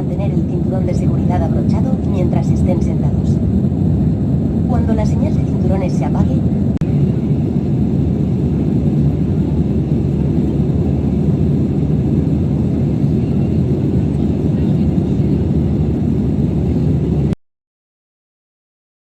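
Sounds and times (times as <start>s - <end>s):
airplane cabin engine rumble: 0.0s - 17.4s.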